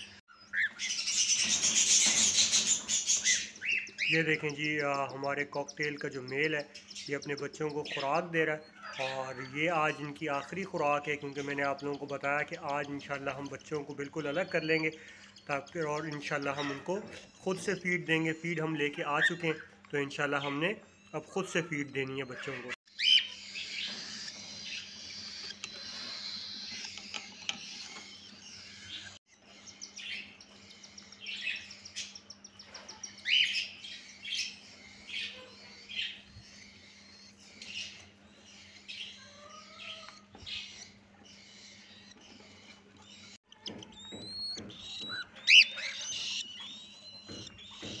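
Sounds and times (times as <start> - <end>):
chicks begging chirps: 0.0 - 48.0.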